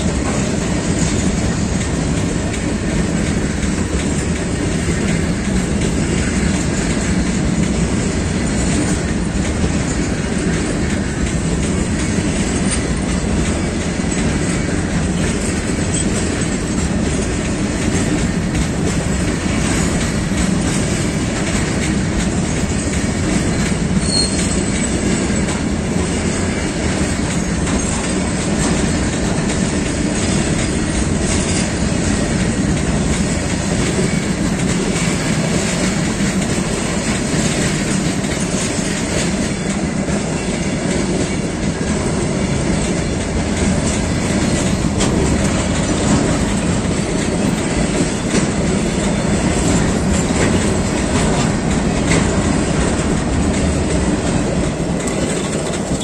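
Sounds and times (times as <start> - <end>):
train wheels rumbling on rail: 0.0 - 56.0
wheels clicking over rail joints: 0.0 - 56.0.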